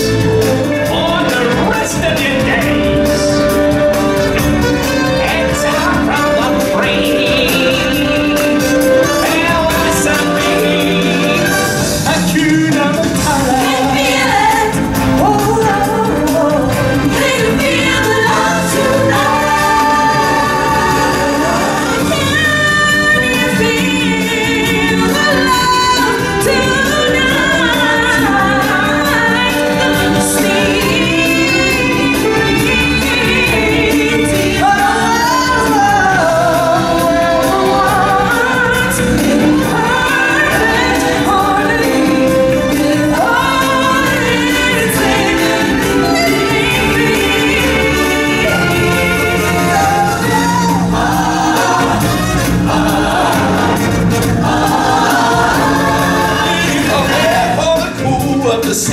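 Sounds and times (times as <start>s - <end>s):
chorus singing: 0.0s - 58.9s
instrumental accompaniment: 0.0s - 58.9s
lead vocalist singing: 0.0s - 58.9s.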